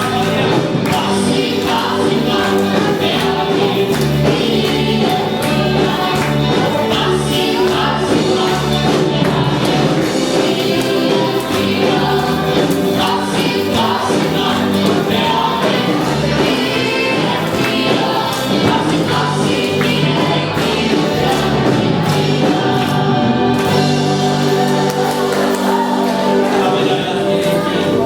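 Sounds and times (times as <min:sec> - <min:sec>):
band playing: 0:00.0 - 0:28.0
choir singing in harmony: 0:00.0 - 0:28.0.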